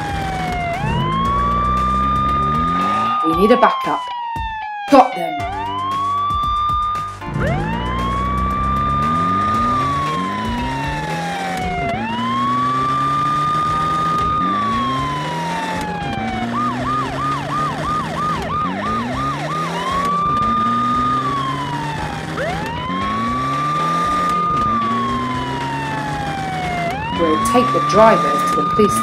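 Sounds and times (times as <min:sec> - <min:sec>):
low rising tone: 0:00.0 - 0:03.4, 0:05.3 - 0:27.8
police siren wailing: 0:00.0 - 0:29.0.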